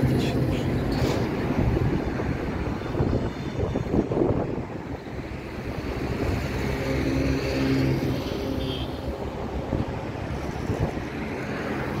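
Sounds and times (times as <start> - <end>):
traffic rumble: 0.0 - 12.0
wind on microphone: 0.9 - 8.3, 9.0 - 12.0.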